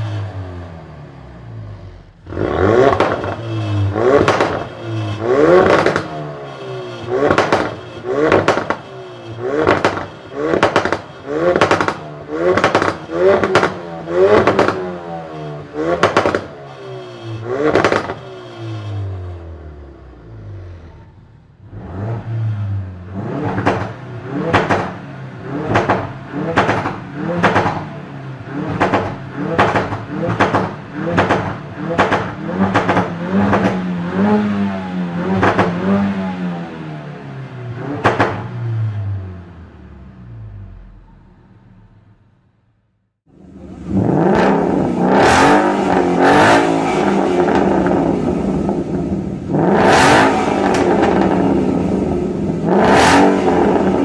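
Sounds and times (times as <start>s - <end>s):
car engine revving: 0.0s - 42.4s, 43.2s - 54.0s.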